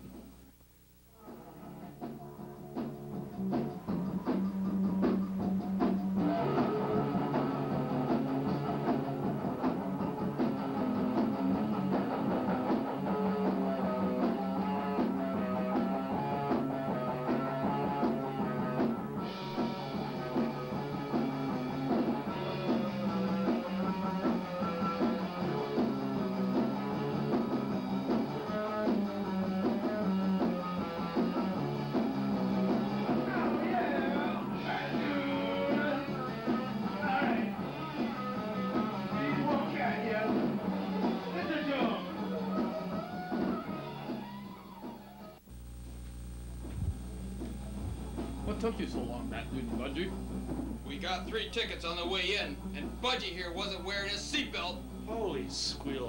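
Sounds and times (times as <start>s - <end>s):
rock music: 1.2s - 45.4s, 46.6s - 56.0s.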